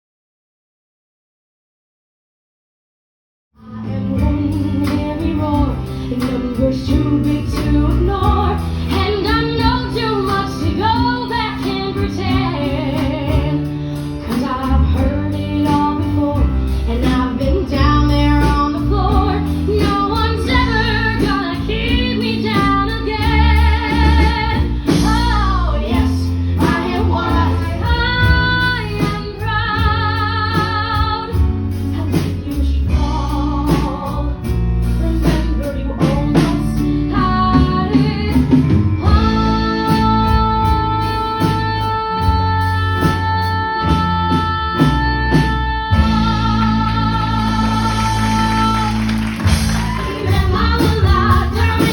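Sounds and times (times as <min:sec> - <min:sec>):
live band playing: 0:03.6 - 0:51.9
woman singing pop song: 0:03.6 - 0:51.9.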